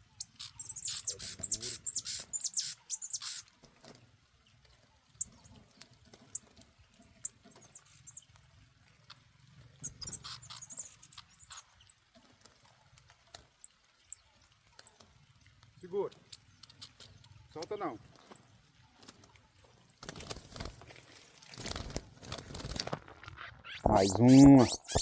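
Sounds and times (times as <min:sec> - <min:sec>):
songbird chirping: 0:00.0 - 0:03.5, 0:04.5 - 0:12.0, 0:12.6 - 0:21.2, 0:23.6 - 0:25.0.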